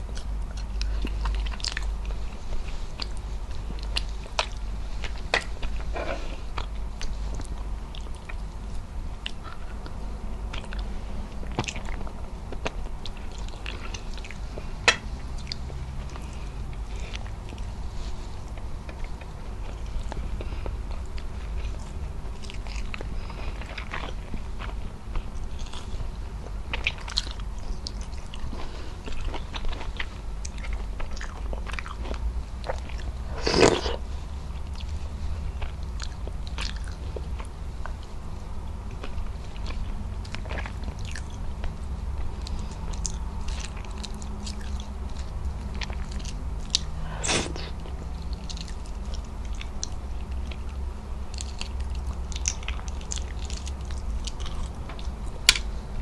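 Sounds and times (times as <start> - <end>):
person chewing with wet smacks: 0.0 - 56.0
steady low hum: 0.0 - 56.0.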